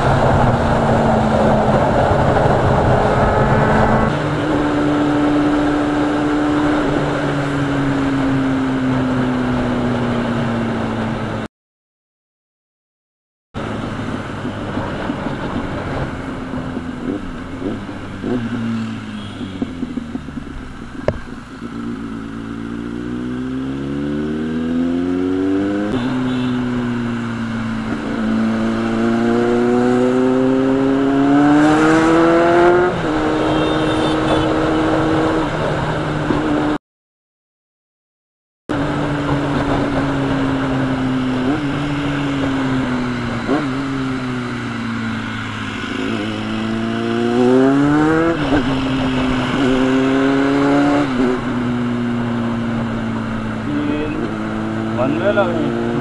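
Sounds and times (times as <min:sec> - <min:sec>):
motorcycle engine accelerating: 0:00.0 - 0:11.5, 0:13.6 - 0:36.8, 0:38.7 - 0:56.0.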